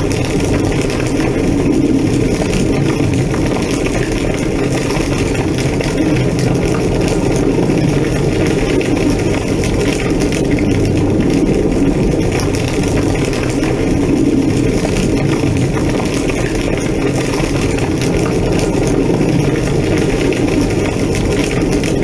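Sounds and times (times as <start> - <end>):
fire burning with low rush: 0.0 - 22.0
fire crackling: 0.0 - 22.0.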